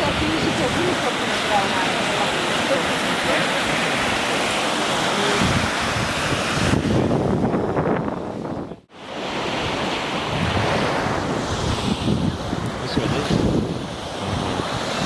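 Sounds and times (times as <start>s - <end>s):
wind buffeting microphone: 0.0s - 4.5s, 5.1s - 8.9s, 9.5s - 15.0s
surf washing onto beach: 0.0s - 15.0s.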